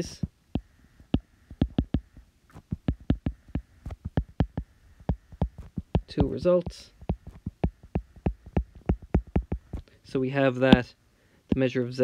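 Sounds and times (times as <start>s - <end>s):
stylus tapping on glass screen: 0.0s - 9.8s.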